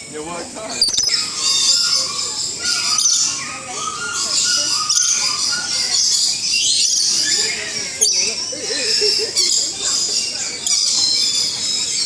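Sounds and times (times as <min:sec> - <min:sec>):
flock of birds calling shrilly: 0:00.0 - 0:12.0.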